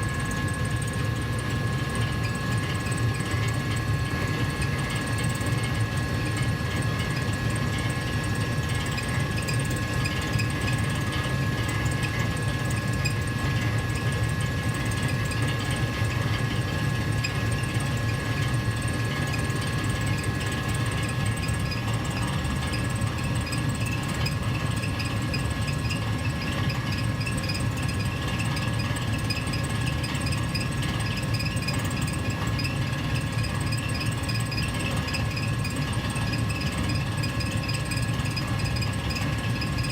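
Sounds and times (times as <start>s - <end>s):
furnace heater rumble: 0.0s - 39.9s.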